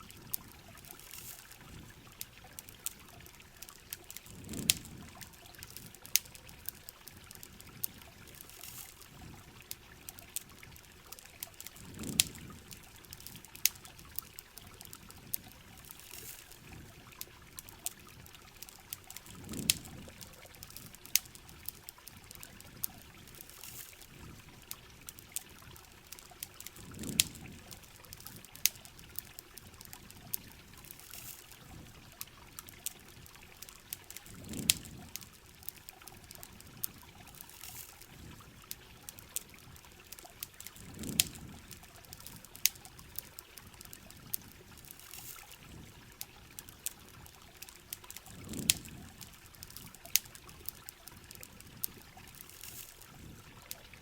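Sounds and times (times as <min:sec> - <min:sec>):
rain hissing: 0:00.0 - 0:09.8, 0:11.4 - 0:25.0, 0:26.1 - 0:32.2, 0:33.0 - 0:39.8, 0:40.6 - 0:47.2, 0:47.9 - 0:51.0
campfire crackling and popping: 0:00.0 - 0:54.0.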